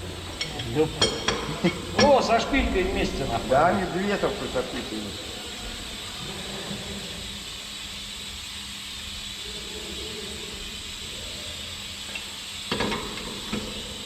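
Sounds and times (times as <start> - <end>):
hissing noise: 0.0 - 12.8.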